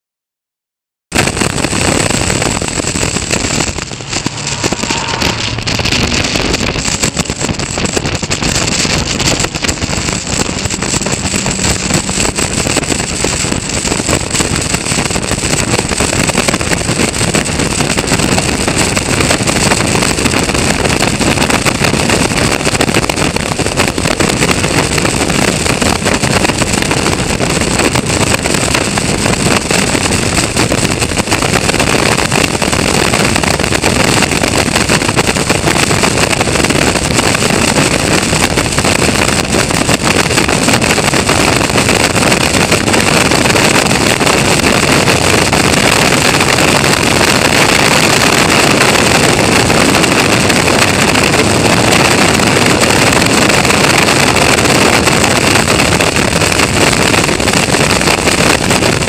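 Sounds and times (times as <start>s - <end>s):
wind rushing: 1.1s - 59.0s
race car engine running hard: 1.2s - 59.0s.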